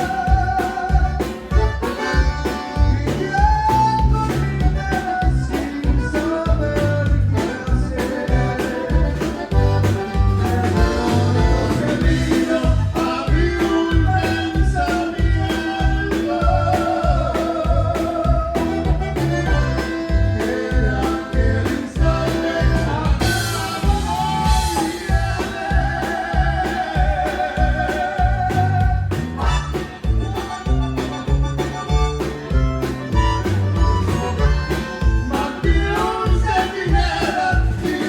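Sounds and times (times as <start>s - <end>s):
bass and drum beat: 0.0s - 38.0s
live band playing: 0.0s - 38.0s.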